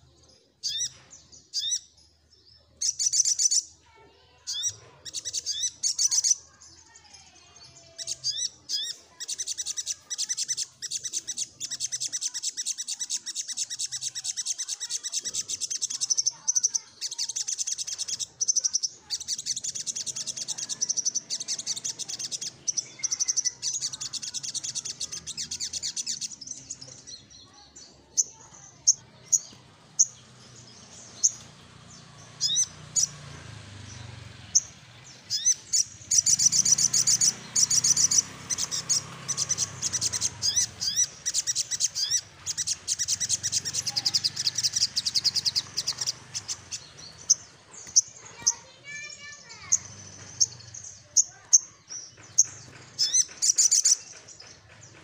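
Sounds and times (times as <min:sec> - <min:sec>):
bird singing rattling trills: 0:00.0 - 0:55.0.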